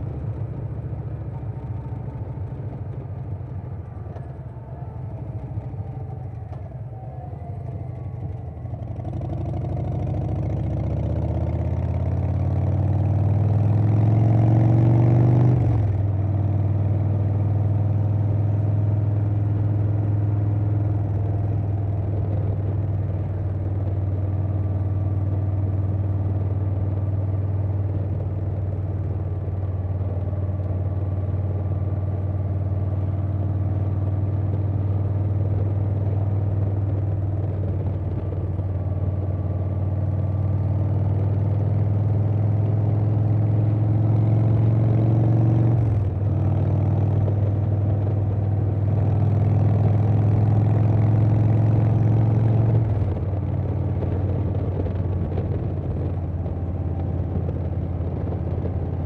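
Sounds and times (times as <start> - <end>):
motorcycle engine running: 0.0 - 59.0
wind: 0.0 - 59.0.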